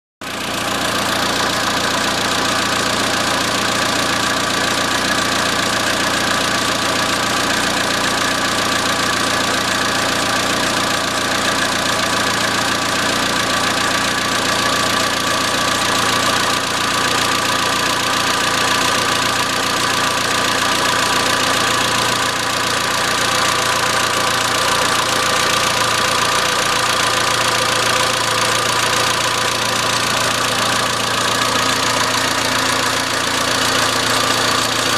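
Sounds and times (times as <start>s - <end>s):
car engine idling: 0.2s - 34.9s
metallic engine knocking: 0.2s - 34.9s.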